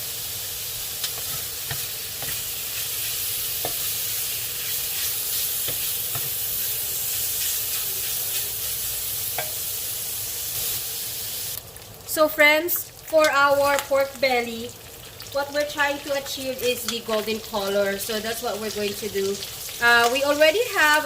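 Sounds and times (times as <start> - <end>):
pork sizzling in a pan: 0.0 - 21.0.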